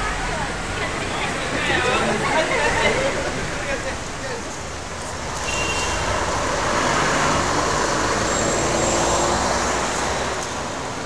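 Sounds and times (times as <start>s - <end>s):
passing vehicle rush: 0.0s - 11.0s.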